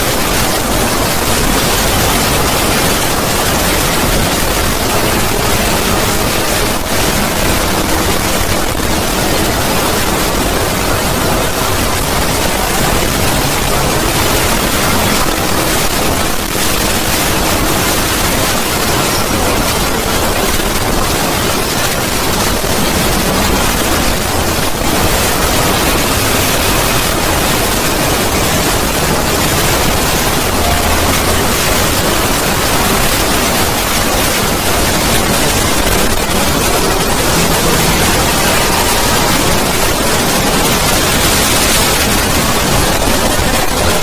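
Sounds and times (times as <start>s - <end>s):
harsh distorted noise: 0.0s - 44.0s.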